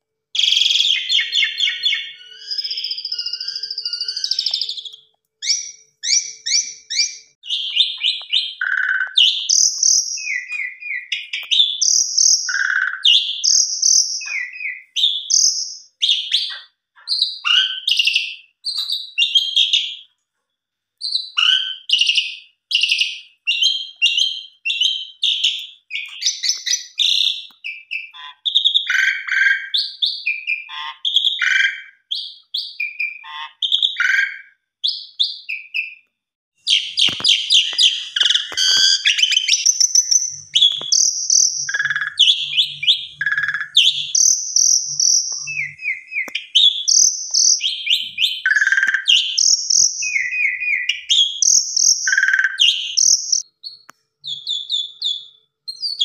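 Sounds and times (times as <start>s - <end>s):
starling singing whistles and chirps: 0.4s - 20.0s, 21.0s - 36.0s, 36.7s - 56.0s.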